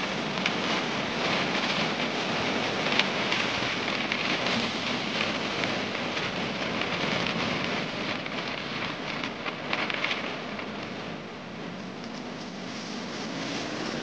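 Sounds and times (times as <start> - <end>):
vehicle road noise: 0.0 - 14.0
wind buffeting microphone: 0.0 - 14.0.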